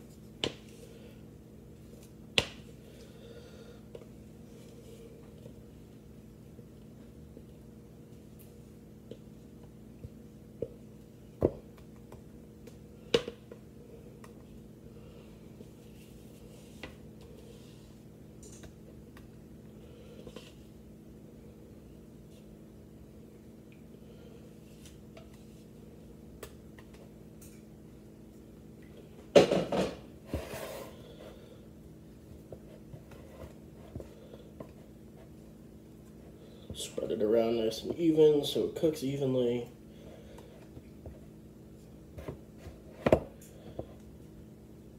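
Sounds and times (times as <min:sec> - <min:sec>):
faint hum: 0:00.0 - 0:44.9.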